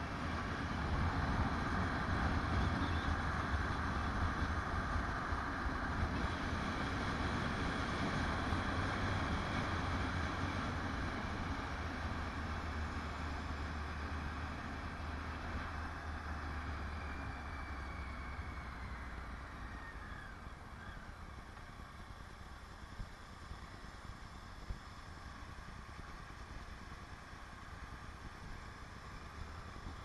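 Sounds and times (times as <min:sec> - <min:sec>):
motorcycle engine hum: 0:00.0 - 0:30.0.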